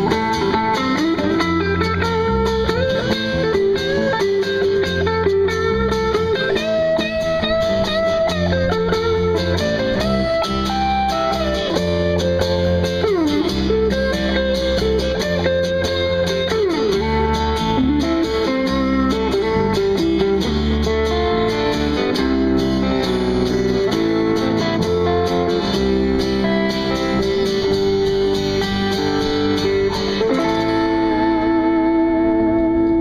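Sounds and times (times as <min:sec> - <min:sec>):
bass line: 0:00.0 - 0:33.0
lead guitar sliding down: 0:00.0 - 0:33.0
strummed guitars: 0:00.0 - 0:33.0.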